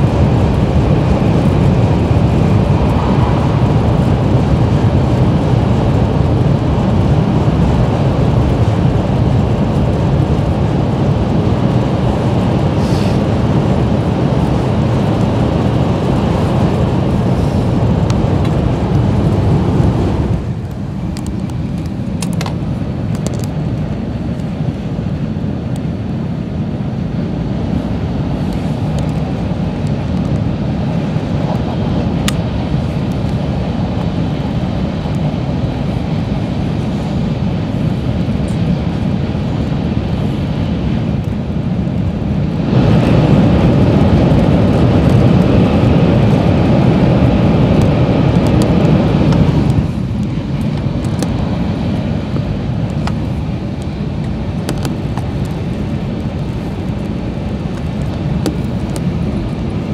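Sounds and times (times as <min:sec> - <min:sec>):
train rumble of wheels and air: 0:00.0 - 0:59.9.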